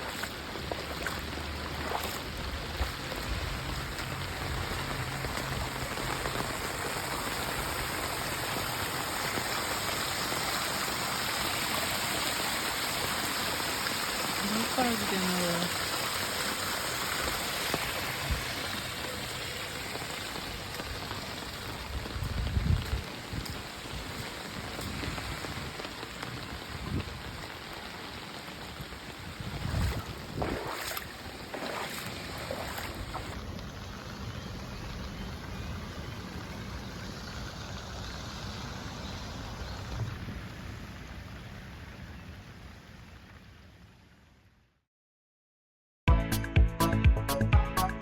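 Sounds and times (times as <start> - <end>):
heavy rain falling: 0.0 - 38.8
running water: 0.0 - 40.4.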